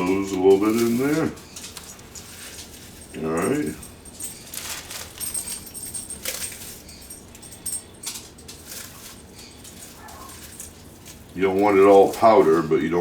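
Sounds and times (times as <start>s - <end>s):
crackers being crushed: 0.0s - 7.4s, 8.0s - 13.0s.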